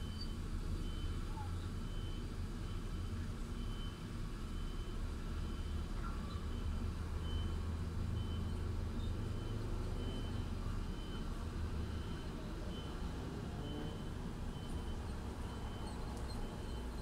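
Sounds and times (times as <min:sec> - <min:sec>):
reversing alarm beeps: 0:00.0 - 0:17.0
truck engine rumble: 0:00.0 - 0:17.0.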